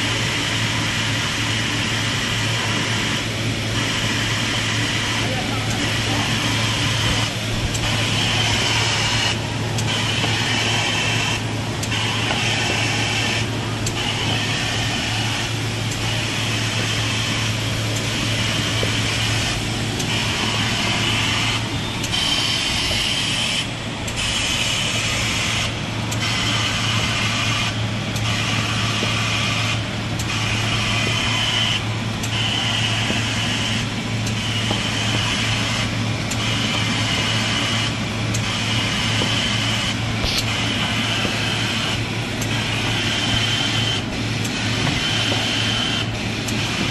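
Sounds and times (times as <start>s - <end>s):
laminating machine humming: 0.0s - 46.9s
machine hissing and clattering: 0.0s - 46.9s.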